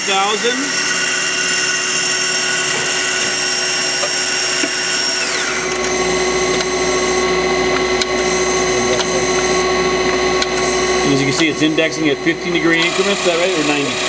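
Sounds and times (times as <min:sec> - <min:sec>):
lathe multi-tone whine: 0:00.0 - 0:14.0.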